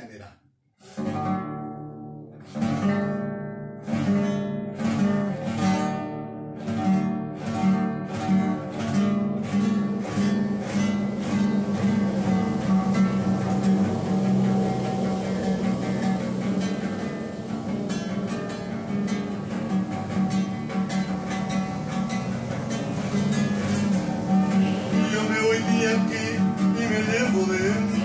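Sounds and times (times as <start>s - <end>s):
acoustic guitar plucked notes: 0.8s - 28.0s.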